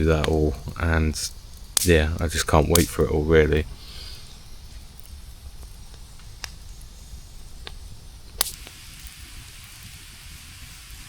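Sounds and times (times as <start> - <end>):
sharp pops: 0.0 - 3.2, 3.8 - 6.9, 7.5 - 11.0
wood fire crackling: 0.0 - 11.0.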